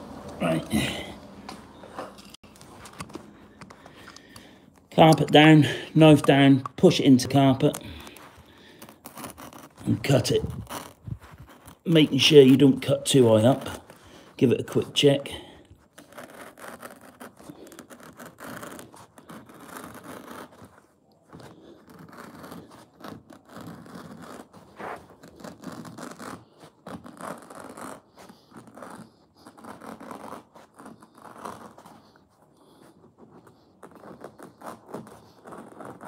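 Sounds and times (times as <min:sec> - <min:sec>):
knife scraping through carpet: 0:02.2 - 0:36.0.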